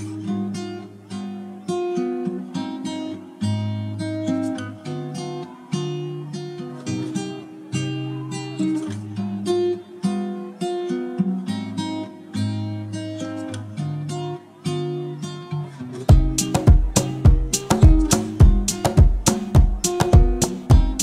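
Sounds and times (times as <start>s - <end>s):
plucked guitar music: 0.0s - 21.0s.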